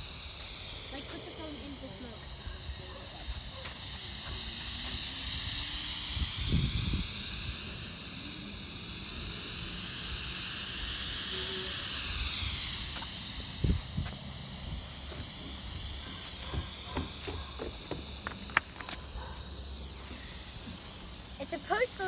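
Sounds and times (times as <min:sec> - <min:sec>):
smoke bomb hissing: 0:00.0 - 0:22.0.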